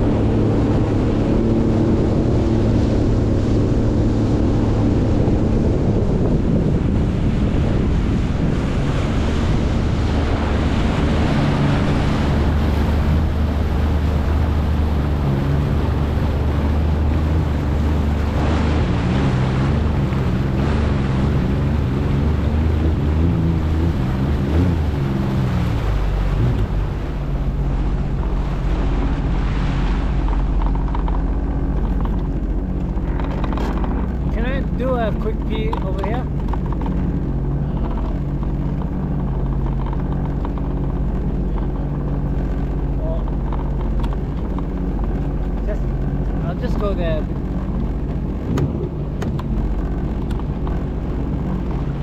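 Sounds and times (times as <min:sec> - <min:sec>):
jet ski engine running: 0:00.0 - 0:52.0
water rushing past hull: 0:00.0 - 0:52.0
wind buffeting microphone: 0:00.0 - 0:52.0.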